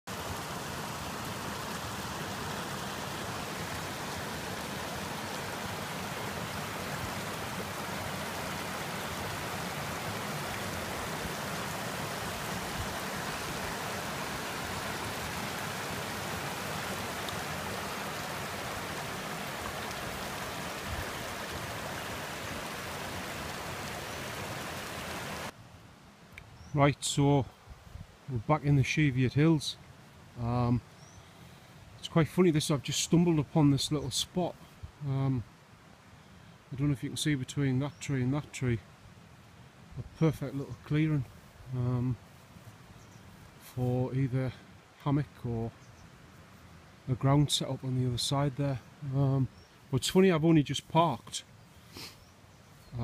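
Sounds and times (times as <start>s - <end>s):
stream water rushing: 0.0s - 26.4s, 28.2s - 53.0s.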